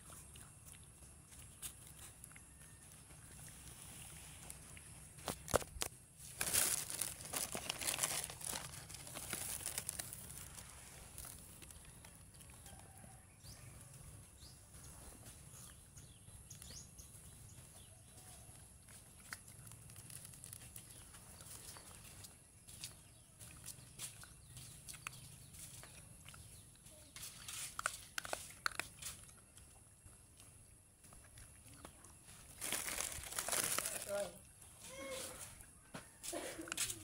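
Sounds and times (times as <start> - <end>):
puppies crunching kibble: 0.0 - 34.8.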